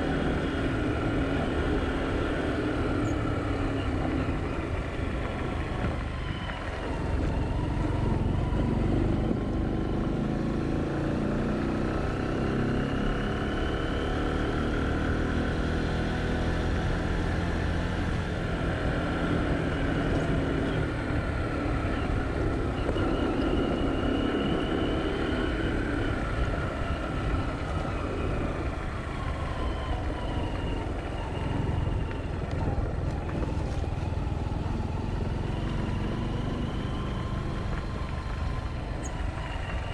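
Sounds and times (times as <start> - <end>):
road noise rumble: 0.0 - 39.9.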